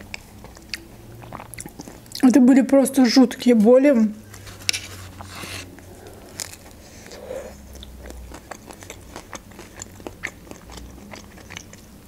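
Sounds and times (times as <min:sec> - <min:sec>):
person chewing food: 0:00.0 - 0:02.2, 0:04.3 - 0:12.0.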